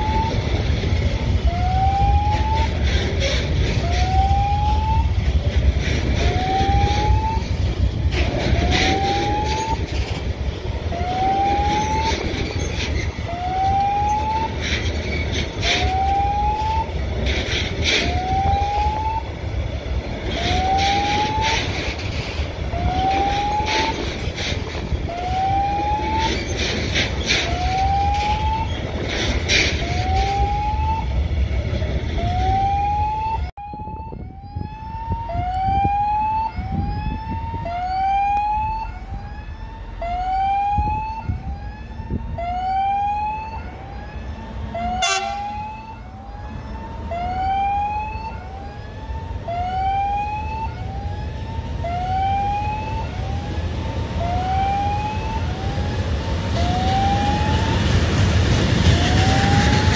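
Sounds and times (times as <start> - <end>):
level crossing warning tone: 0.0 - 2.9, 3.7 - 17.2, 18.0 - 29.0, 29.7 - 59.9
train rumble: 0.0 - 33.5, 34.2 - 59.9.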